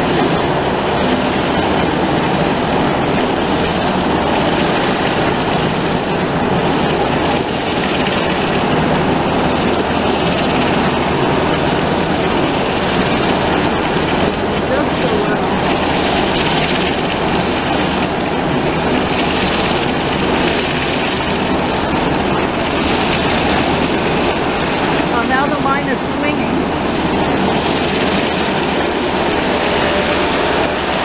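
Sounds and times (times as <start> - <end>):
helicopter rotor and turbine: 0.0 - 31.0.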